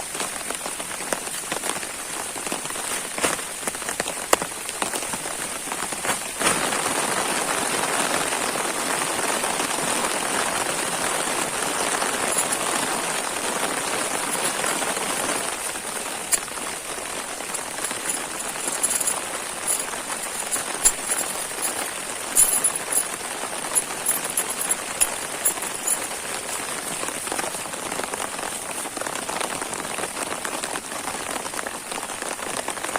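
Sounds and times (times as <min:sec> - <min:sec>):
heavy rain hissing: 0:00.0 - 0:32.9
rain drops tapping: 0:00.0 - 0:32.9.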